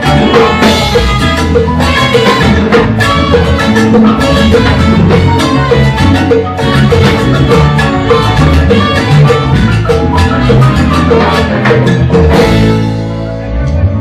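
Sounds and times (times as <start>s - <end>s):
salsa band music: 0.0s - 14.0s.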